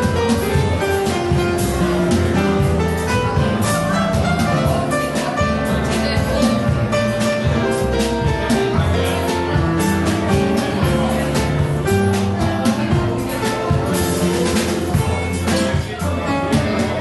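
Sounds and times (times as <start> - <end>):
small jazz band playing: 0.0 - 17.0
walking double bass: 0.0 - 17.0.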